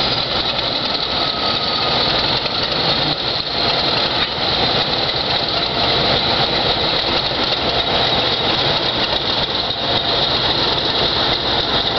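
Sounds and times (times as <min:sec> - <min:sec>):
diesel locomotives running: 0:00.0 - 0:11.9.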